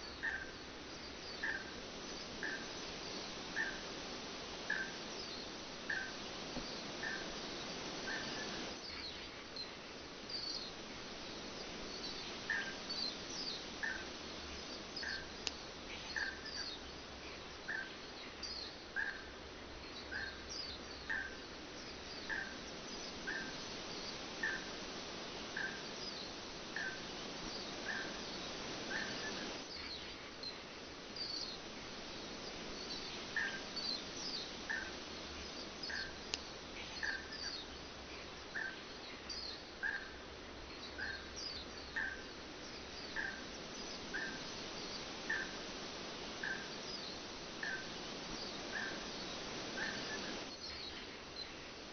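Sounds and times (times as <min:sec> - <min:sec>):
birds chirping: 0:00.0 - 0:19.2, 0:19.9 - 0:51.6.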